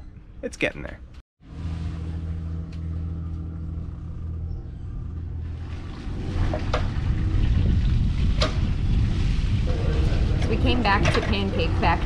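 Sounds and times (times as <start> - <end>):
engine humming: 0.7 - 12.0.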